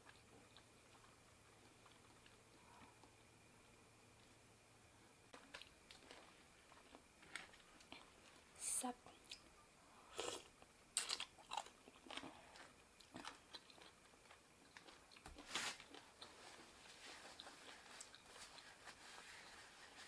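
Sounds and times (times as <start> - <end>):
person chewing food: 0.0 - 4.4, 5.3 - 8.5, 10.1 - 18.8.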